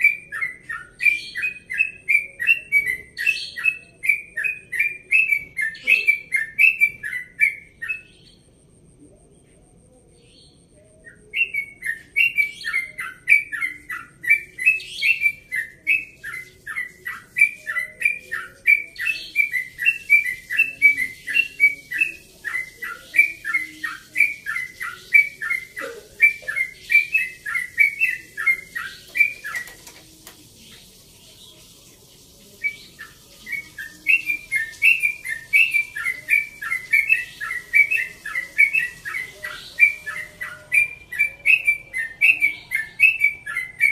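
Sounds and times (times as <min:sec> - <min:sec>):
bird singing rapid falling notes: 0:00.0 - 0:43.9.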